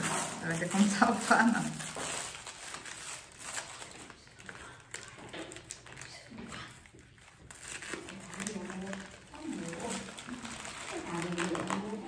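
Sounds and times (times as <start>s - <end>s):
wrapping paper tearing and crinkling: 0.0s - 12.0s.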